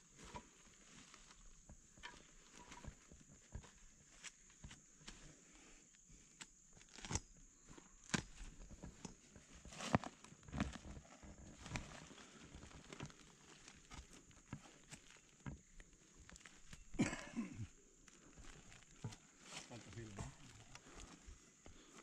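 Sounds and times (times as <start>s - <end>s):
footsteps in damp earth: 0.0s - 6.0s, 6.7s - 22.0s.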